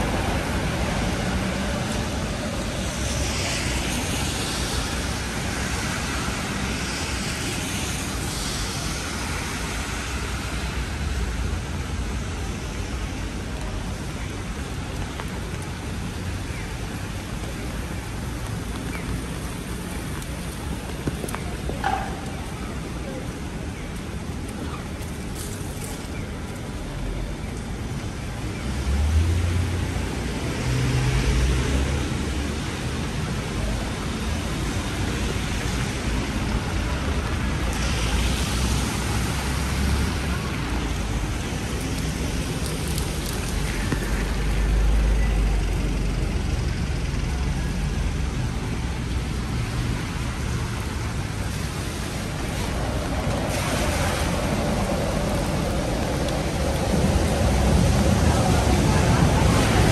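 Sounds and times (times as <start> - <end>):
cars driving on wet road: 0.0 - 59.9
heavy rain: 0.0 - 59.9.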